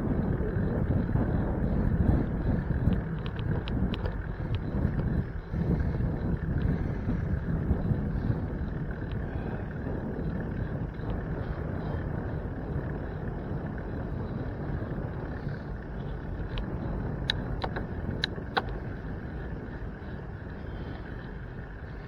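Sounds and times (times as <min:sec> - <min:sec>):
rolling road noise: 0:00.0 - 0:22.0
wind rushing on microphone: 0:00.0 - 0:22.0.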